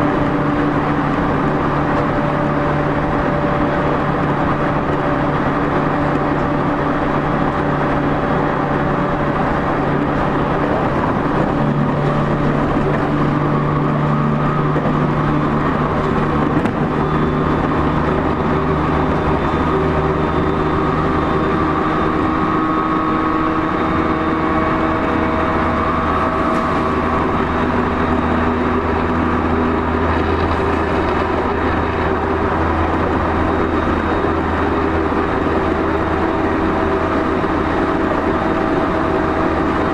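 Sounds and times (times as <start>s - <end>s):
traction motor whine and hum: 0.0s - 39.9s
train wheels rolling on rail: 0.0s - 39.9s.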